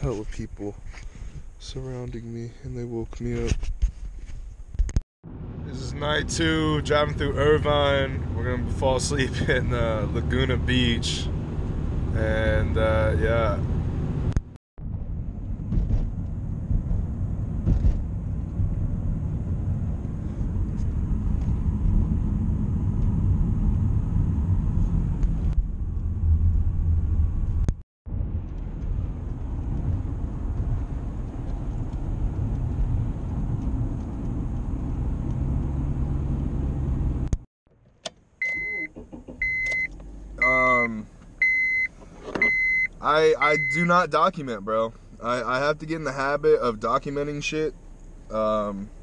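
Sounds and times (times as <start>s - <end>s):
car road and engine rumble: 0.0s - 49.0s.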